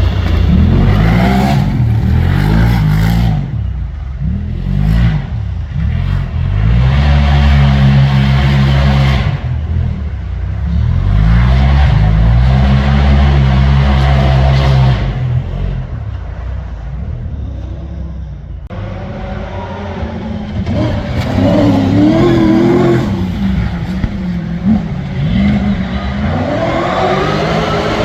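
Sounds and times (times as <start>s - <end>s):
vehicle engine revving hard: 0.0s - 16.1s, 18.7s - 28.0s.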